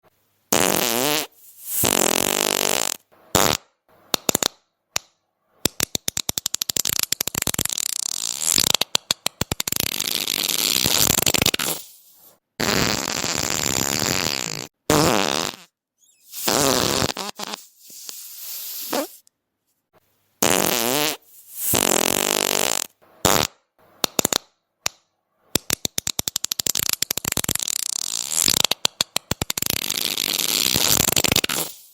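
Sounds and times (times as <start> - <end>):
fart sounds: 0.5 - 4.6, 6.1 - 19.2, 20.4 - 24.5, 25.6 - 31.9.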